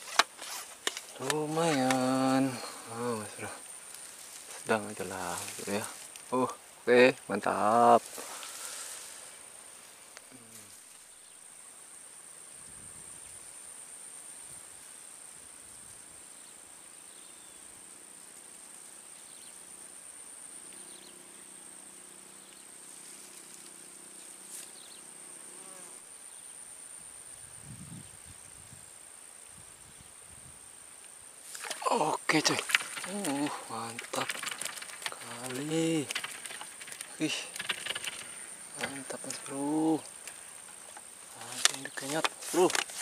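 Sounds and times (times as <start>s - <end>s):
insects high-pitched trill: 0.0s - 43.0s.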